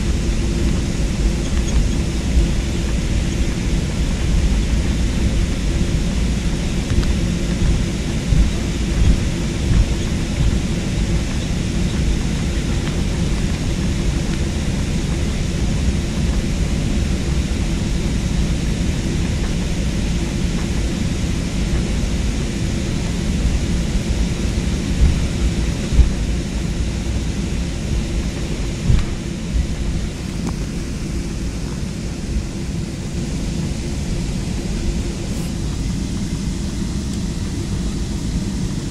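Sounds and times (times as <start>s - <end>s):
jet engine and airflow rumble: 0.0s - 38.9s.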